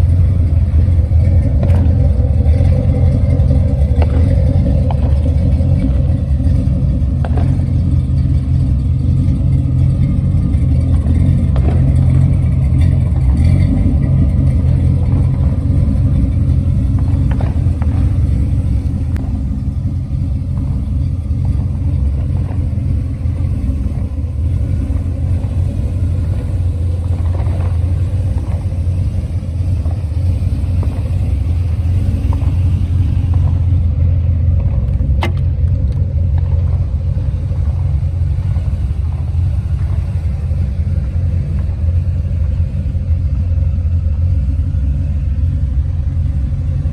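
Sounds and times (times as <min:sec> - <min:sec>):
car engine deep rumble: 0:00.0 - 0:46.9.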